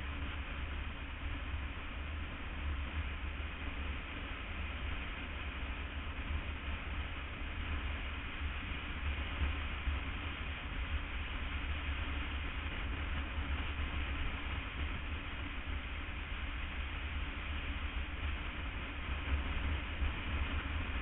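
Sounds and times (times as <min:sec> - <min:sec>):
deep road rumble: 0:00.0 - 0:21.0.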